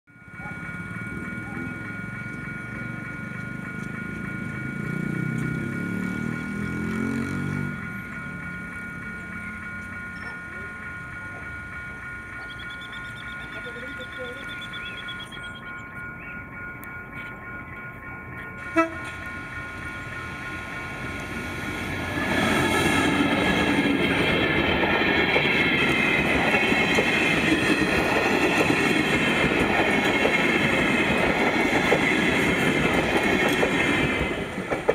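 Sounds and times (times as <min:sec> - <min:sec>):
diesel locomotive engine running: 0:00.1 - 0:34.9
rail clicks: 0:00.3 - 0:34.9
train wheels rumbling on rail: 0:00.4 - 0:34.9.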